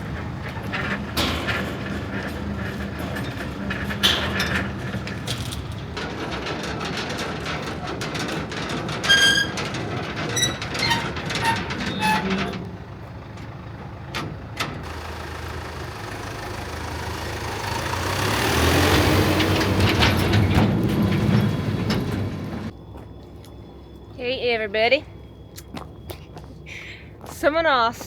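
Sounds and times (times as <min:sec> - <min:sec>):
heavy vehicle engine running: 0:00.0 - 0:27.3.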